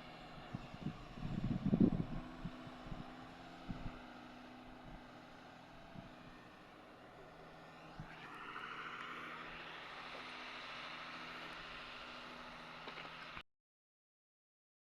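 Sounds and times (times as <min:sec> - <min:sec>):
diesel machinery engine running: 0:00.0 - 0:13.4.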